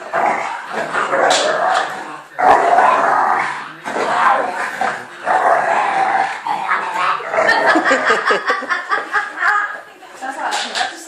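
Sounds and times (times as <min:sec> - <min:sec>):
dogs growling and barking: 0:00.0 - 0:09.3.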